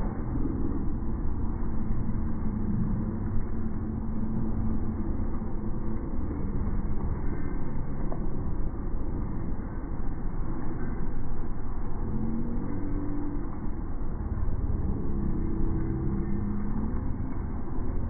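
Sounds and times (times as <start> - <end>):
faint hum: 0.0 - 18.0
low rumbling noise: 0.0 - 18.0.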